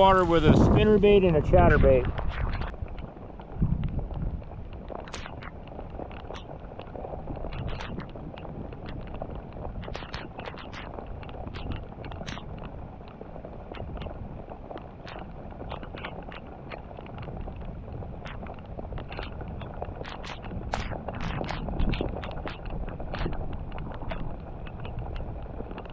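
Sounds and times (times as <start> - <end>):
wind buffeting microphone: 0.0 - 25.9
sharp ticks and taps: 2.6 - 25.9.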